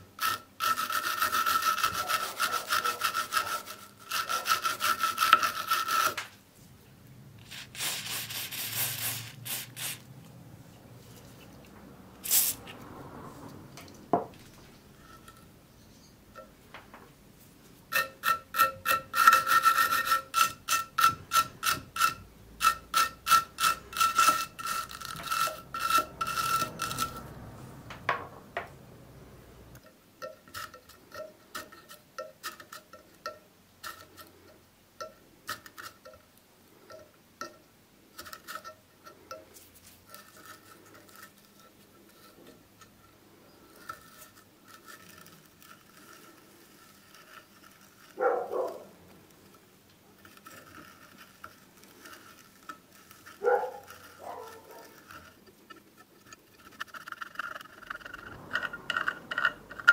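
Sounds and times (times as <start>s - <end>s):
wire brush scrubbing metal: 0.0s - 6.3s, 7.4s - 10.1s, 17.8s - 34.6s, 36.9s - 59.9s
metallic clicks and scrapes: 0.0s - 6.4s, 7.4s - 17.2s, 17.8s - 59.9s.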